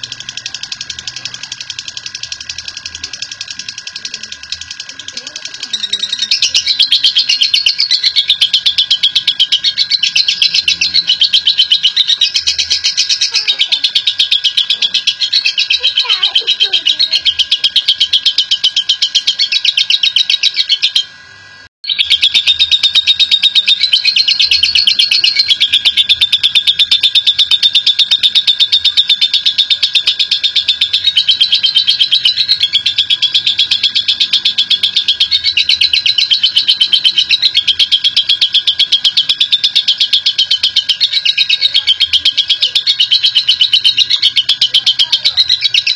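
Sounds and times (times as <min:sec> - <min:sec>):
bird chattering trill: 0:00.0 - 0:45.9.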